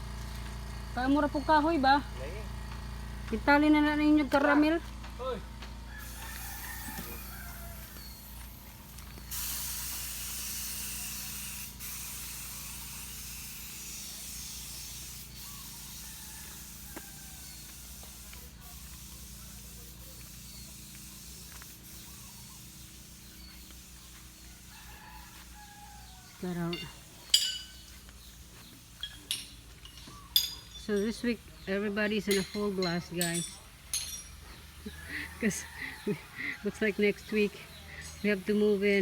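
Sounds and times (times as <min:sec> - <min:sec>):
paint spray gun hissing: 0:05.9 - 0:39.0.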